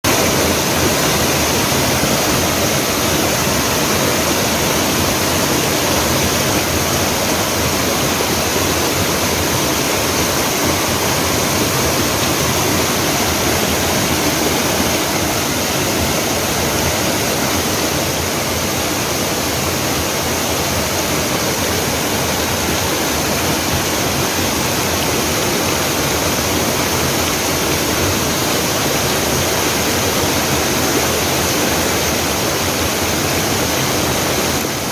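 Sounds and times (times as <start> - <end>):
water cascading over rocks: 0.0 - 34.9.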